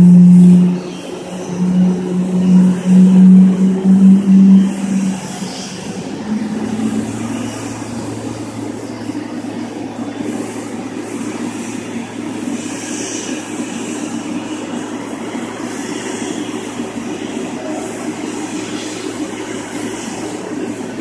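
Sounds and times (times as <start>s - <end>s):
aircraft low hum and rumble: 0.0s - 21.0s
faint high whine: 0.0s - 21.0s.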